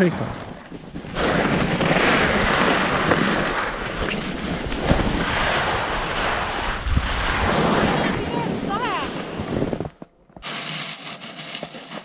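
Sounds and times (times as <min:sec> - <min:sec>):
wind buffeting microphone: 0:00.0 - 0:09.9
skis sliding over snow: 0:00.7 - 0:12.0.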